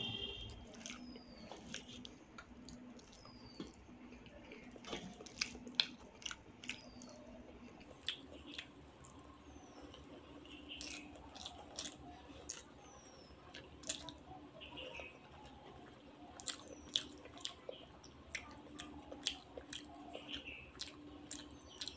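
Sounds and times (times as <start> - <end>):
wet chewing and lip smacks: 0.4 - 14.3, 15.0 - 21.9.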